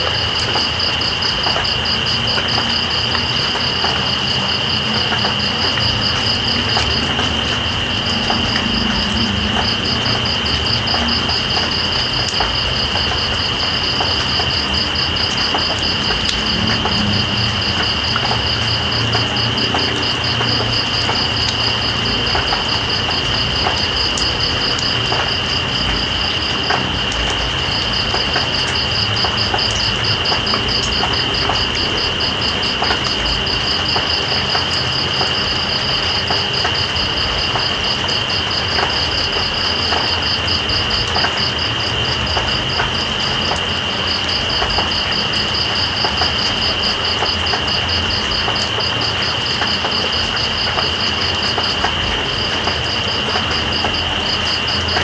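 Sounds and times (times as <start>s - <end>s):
faint raindrop ticks: 0.0s - 55.0s
rain hiss: 0.0s - 55.0s.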